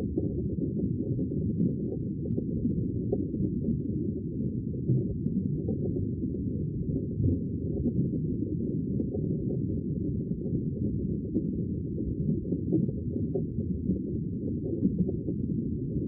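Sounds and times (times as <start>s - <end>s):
muffled sea water rumble: 0.0s - 16.0s.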